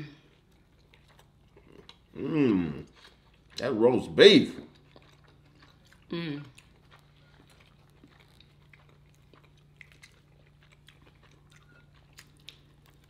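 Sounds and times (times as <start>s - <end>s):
chewing with wet mouth clicks: 0.2s - 2.2s, 2.8s - 3.8s, 4.6s - 13.0s.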